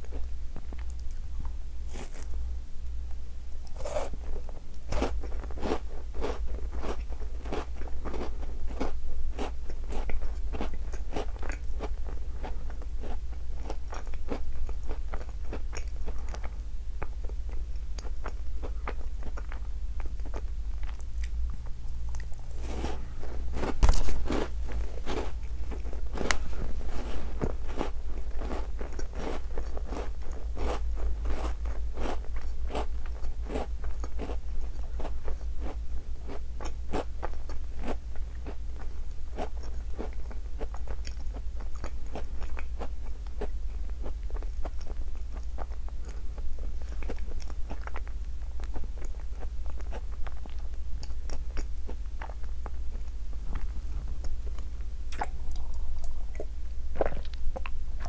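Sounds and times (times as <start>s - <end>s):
biscuit crunching while chewing: 3.6s - 55.4s.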